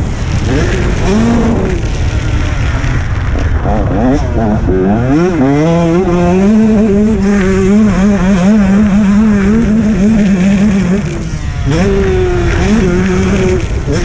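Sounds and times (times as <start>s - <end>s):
two-stroke motocross engine revving: 0.0s - 14.0s.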